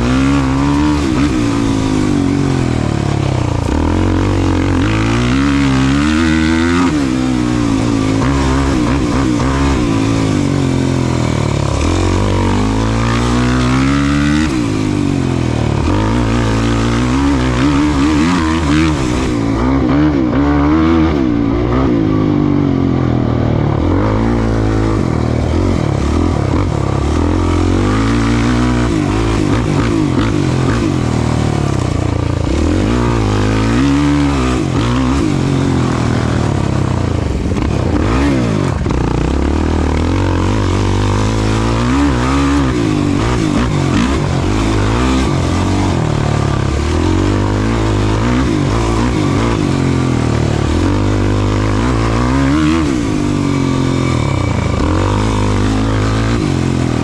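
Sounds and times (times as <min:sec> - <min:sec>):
race vehicle engine revving: 0:00.0 - 0:57.0.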